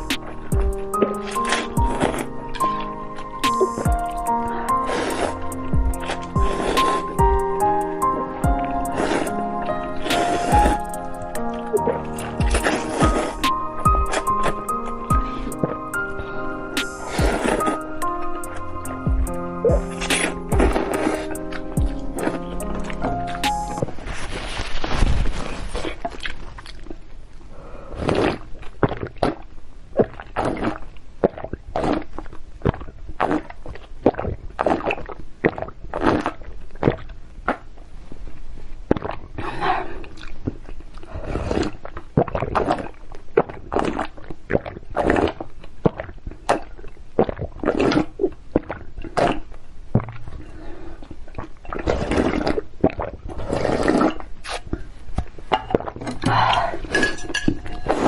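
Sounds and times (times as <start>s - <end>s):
chewing: 0.0s - 15.8s, 17.0s - 27.0s, 30.0s - 37.6s, 38.9s - 58.0s
noodle slurping: 0.0s - 26.8s, 27.9s - 29.4s, 30.0s - 37.6s, 38.9s - 54.9s, 55.7s - 58.0s
sipping and swallowing: 0.0s - 27.0s, 27.9s - 37.8s, 38.9s - 58.0s.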